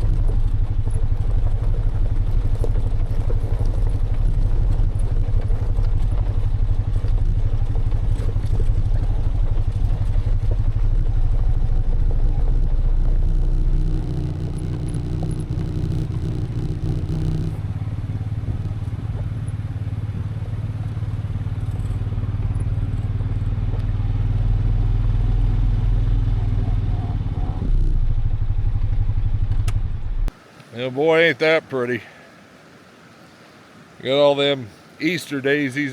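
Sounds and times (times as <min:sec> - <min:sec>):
vehicle engine running: 0:00.0 - 0:30.3.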